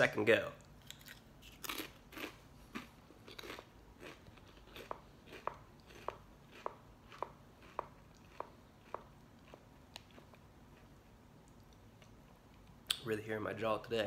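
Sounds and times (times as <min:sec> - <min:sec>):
chip crunching: 0:00.8 - 0:12.2.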